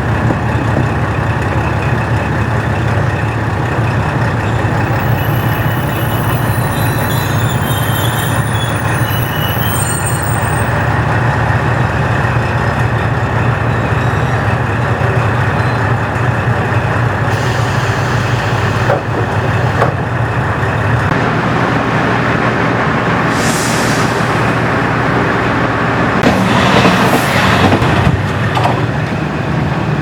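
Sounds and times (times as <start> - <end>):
diesel railcar engine drone: 0.0 - 30.0
train rolling noise: 0.0 - 30.0.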